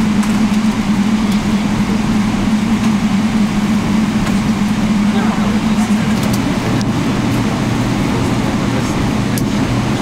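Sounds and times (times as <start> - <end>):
aircraft cabin hum: 0.0 - 10.0
jet engines and airflow rushing: 0.0 - 10.0.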